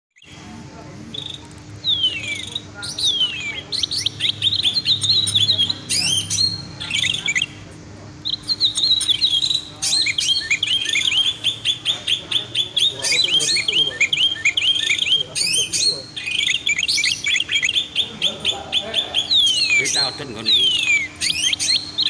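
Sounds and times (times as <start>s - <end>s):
faint steady hum: 0.2s - 22.0s
songbirds chirping: 0.2s - 22.0s.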